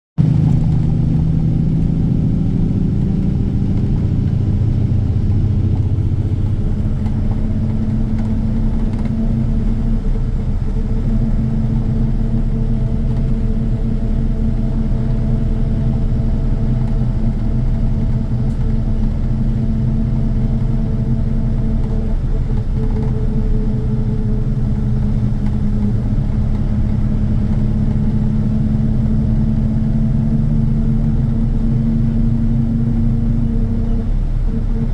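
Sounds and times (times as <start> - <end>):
engine droning: 0.2 - 34.9.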